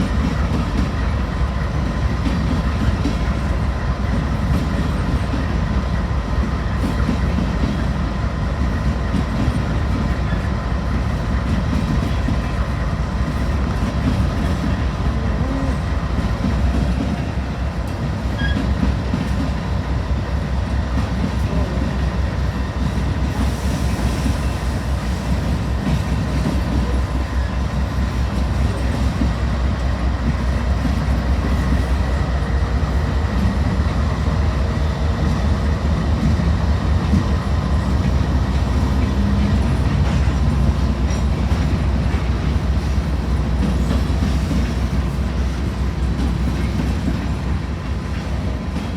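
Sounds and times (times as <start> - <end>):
clickety-clack over rail joints: 0.0 - 48.9
train wheels rumbling on rails: 0.0 - 48.9.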